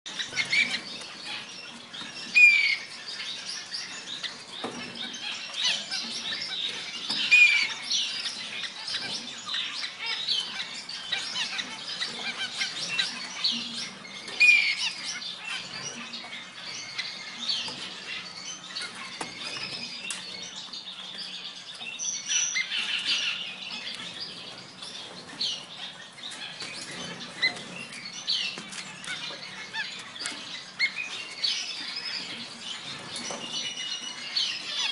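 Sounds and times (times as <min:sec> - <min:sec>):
finches chirping chorus: 0:00.1 - 0:34.9.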